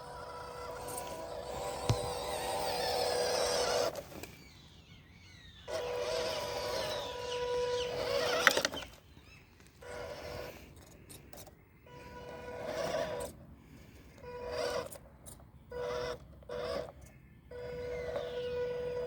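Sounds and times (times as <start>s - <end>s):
rc car motor whining: 0.0s - 9.2s, 9.8s - 19.0s.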